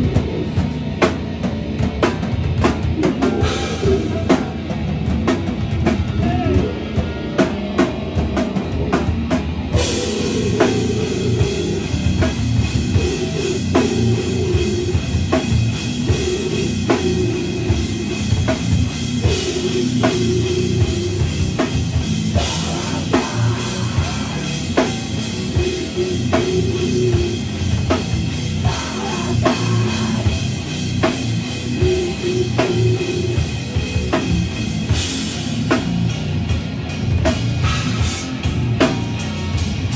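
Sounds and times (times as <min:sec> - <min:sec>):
drum kit beating: 0:00.0 - 0:39.9
electric guitar: 0:00.0 - 0:39.9
rock band playing live: 0:00.0 - 0:39.9.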